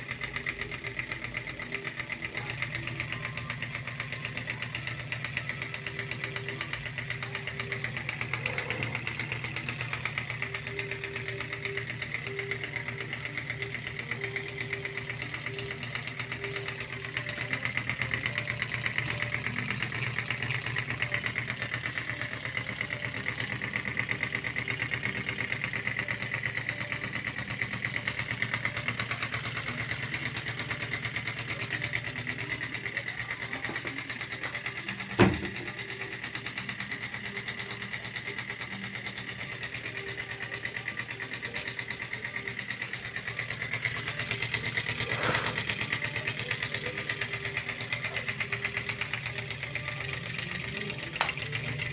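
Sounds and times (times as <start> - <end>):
engine linkages ticking: 0.0 - 51.9.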